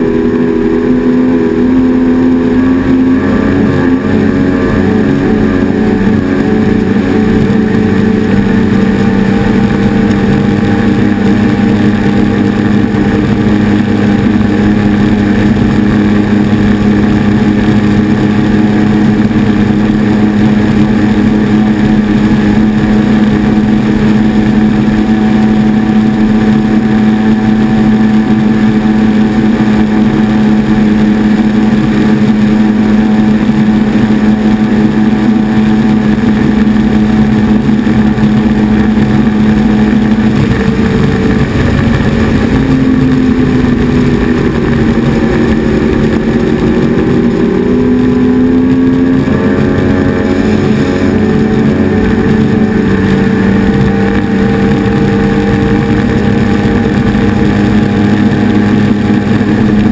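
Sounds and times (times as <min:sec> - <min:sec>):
outboard engine at high speed: 0:00.0 - 0:59.9
rush of spray and wind: 0:00.0 - 0:59.9.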